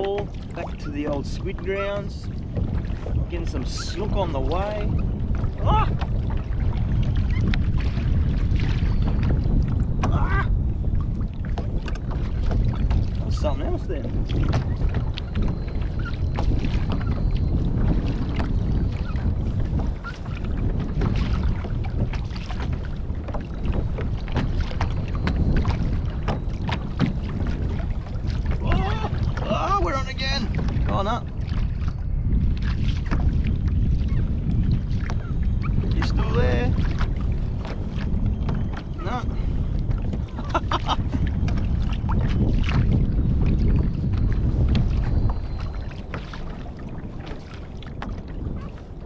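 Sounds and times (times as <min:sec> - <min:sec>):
water sloshing against kayak hull: 0:00.0 - 0:49.0
wind buffeting microphone: 0:00.0 - 0:49.0.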